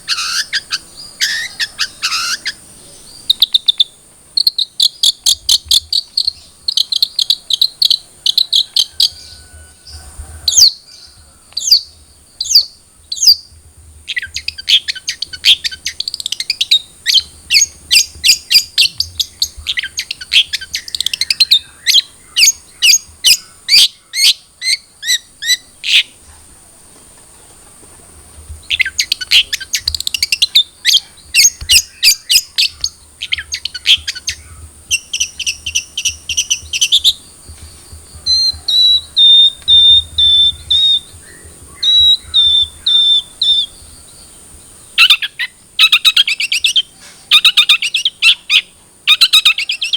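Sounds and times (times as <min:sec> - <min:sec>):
bird chirping and trilling: 0:00.0 - 0:26.2, 0:28.6 - 0:49.9.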